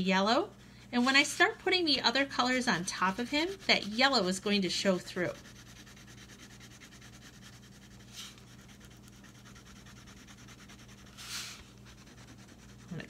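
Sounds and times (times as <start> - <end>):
crayon scratching on paper: 0.0 - 13.0.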